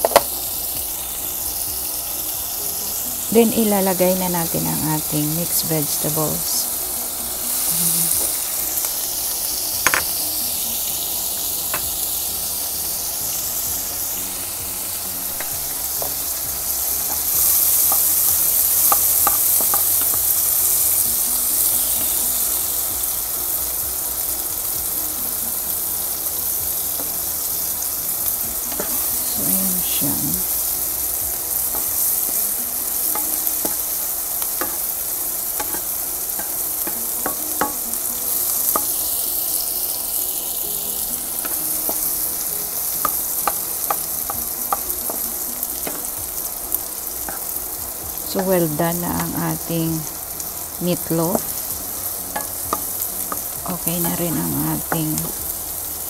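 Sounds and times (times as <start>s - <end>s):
food sizzling in frying pan: 0.0s - 56.0s.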